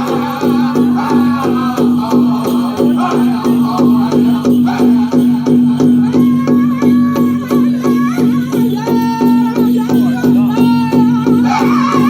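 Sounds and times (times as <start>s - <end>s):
big drum steady beat: 0.0s - 12.0s
high-pitched singing: 0.0s - 12.0s.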